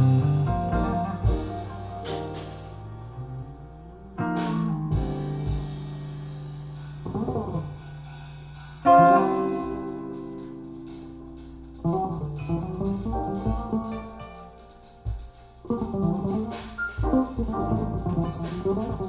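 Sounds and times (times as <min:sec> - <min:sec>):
jazz plucked-string chords: 0:00.0 - 0:19.0.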